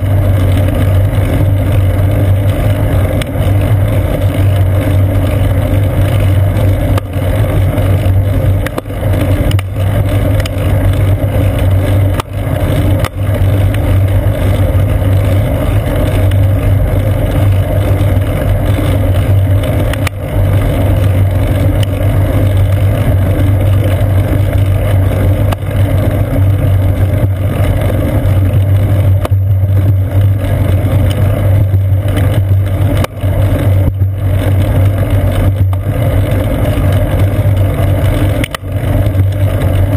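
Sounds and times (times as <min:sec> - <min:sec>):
low rumble of wind and road: 0:00.0 - 0:39.9.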